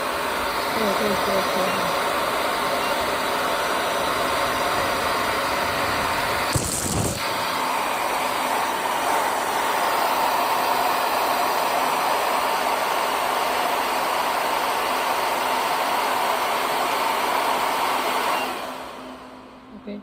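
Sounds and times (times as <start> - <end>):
hair dryer running: 0.0 - 19.7.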